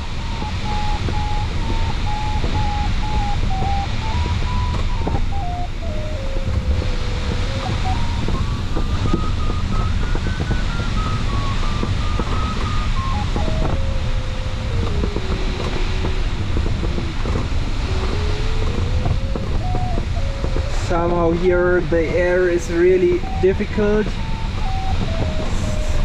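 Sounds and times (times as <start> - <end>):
cockpit airflow noise: 0.0 - 26.0
variometer tone changing pitch: 0.0 - 26.0.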